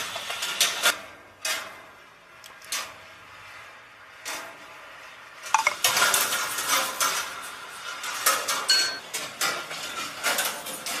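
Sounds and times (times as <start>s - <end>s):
balls rattling on metal tracks: 0.0s - 3.3s, 4.2s - 11.0s.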